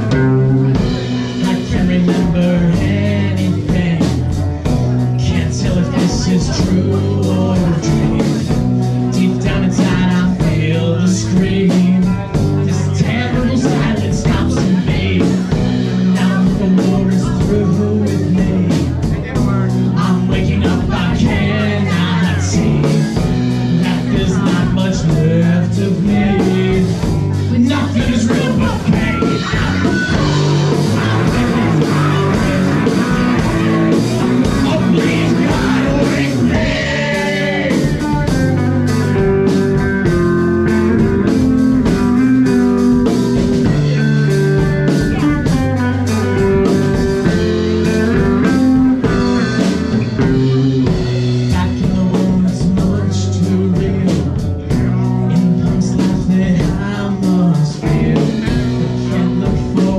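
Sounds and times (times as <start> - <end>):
bass guitar: 0.0 - 59.9
drum kit: 0.0 - 59.9
electric guitars: 0.0 - 59.9
person singing: 0.0 - 59.9.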